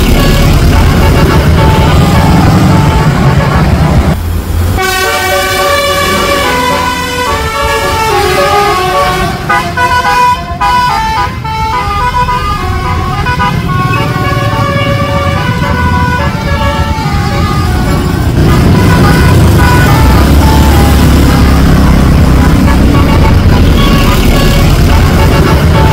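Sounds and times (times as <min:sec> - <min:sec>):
bus multi-tone air horn: 0:00.0 - 0:04.1, 0:04.8 - 0:25.9
bus engine running: 0:00.0 - 0:25.9.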